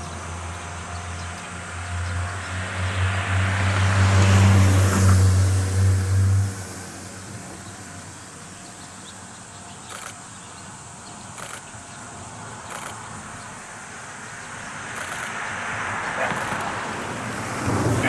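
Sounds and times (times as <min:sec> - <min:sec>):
insects chirping: 0:00.0 - 0:03.2, 0:06.5 - 0:18.0.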